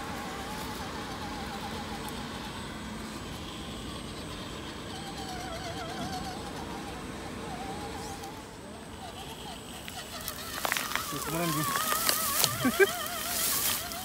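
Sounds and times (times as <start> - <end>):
electric motor and gears whining: 0.0 - 14.0.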